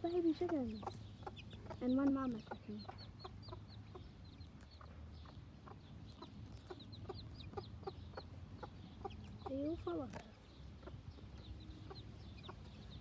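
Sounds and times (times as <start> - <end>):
chicks peeping: 0.0 - 13.0
hen clucking softly: 0.1 - 13.0.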